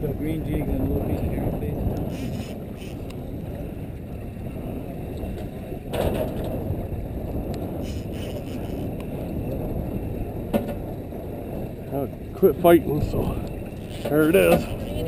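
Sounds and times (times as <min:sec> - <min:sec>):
boat on choppy water: 0:00.0 - 0:15.0.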